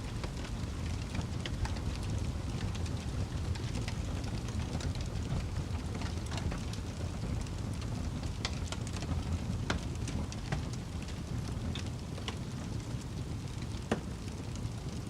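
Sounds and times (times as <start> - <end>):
fire burning with crackles: 0.0 - 15.0.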